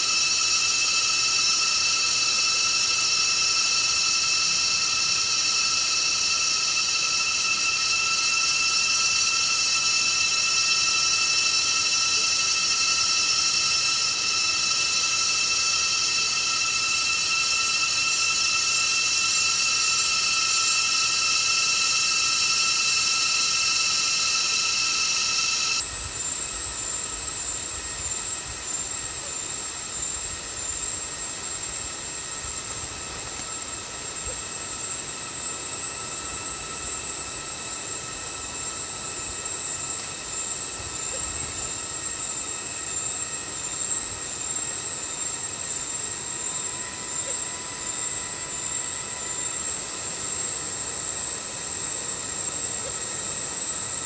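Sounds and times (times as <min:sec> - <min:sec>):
cicadas droning: 0:00.0 - 0:54.0.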